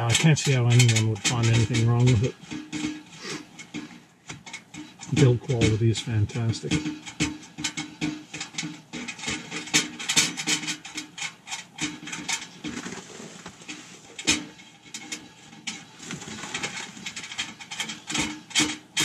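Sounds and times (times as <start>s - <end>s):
metal pipe clicks and scrapes: 0.0s - 19.0s.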